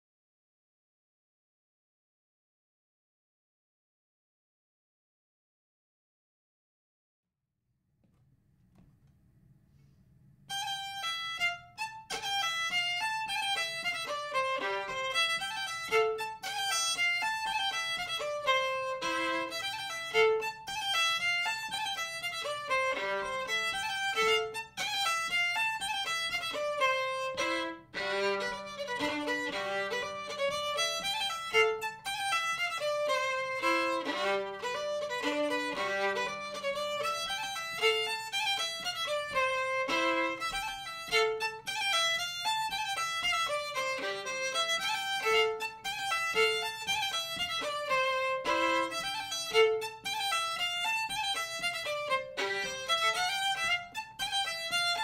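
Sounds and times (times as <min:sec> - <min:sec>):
solo violin folk tune: 0:10.4 - 0:55.0.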